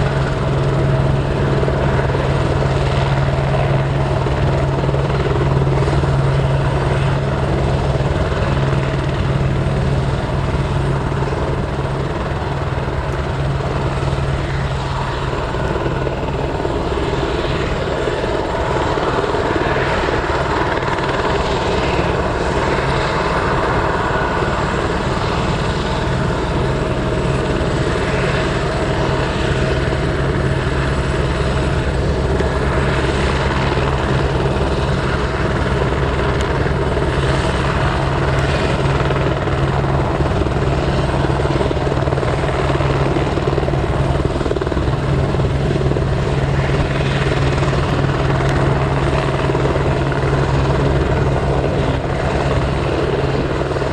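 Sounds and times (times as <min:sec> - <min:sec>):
helicopter rotor drone: 0:00.0 - 0:53.9.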